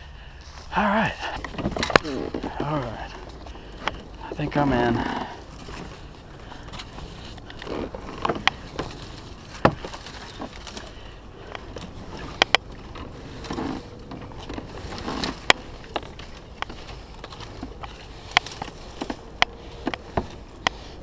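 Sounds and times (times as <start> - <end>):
reeds scraping along kayak hull: 0.5 - 21.0.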